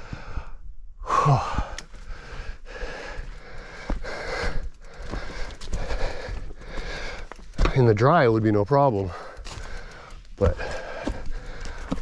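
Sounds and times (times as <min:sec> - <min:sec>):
person breathing heavily: 0:00.0 - 0:07.7, 0:09.1 - 0:12.0.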